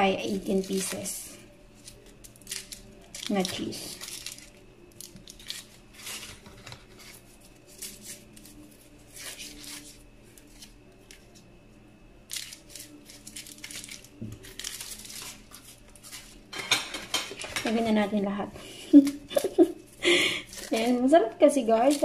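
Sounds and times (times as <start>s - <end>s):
foil wrappers crinkling and tearing: 0.0s - 11.5s, 12.2s - 22.0s.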